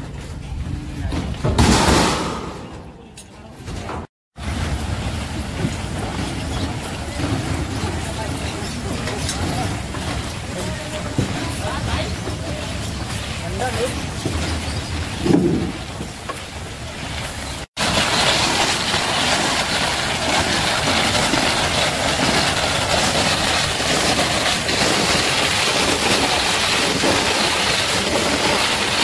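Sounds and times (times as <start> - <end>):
ice cream machine drum rattling: 4.4 - 29.0.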